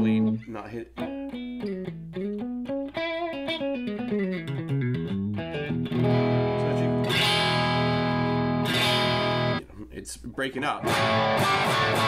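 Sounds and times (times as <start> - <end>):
overdriven electric guitar: 1.0 - 9.6, 10.8 - 12.0.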